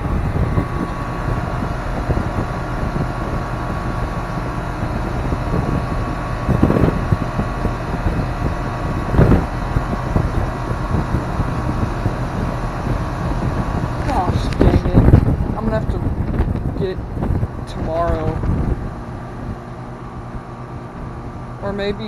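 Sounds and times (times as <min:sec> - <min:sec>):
air conditioner unit running: 0:00.0 - 0:22.0.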